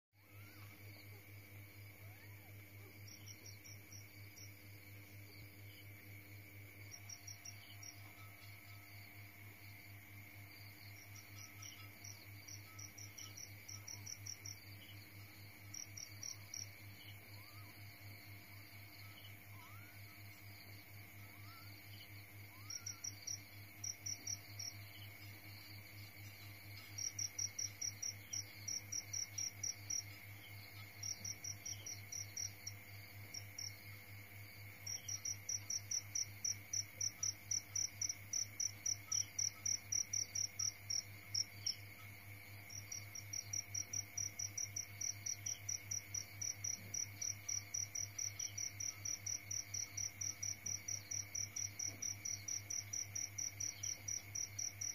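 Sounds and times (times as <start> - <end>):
cricket chirping: 0.2 - 54.9.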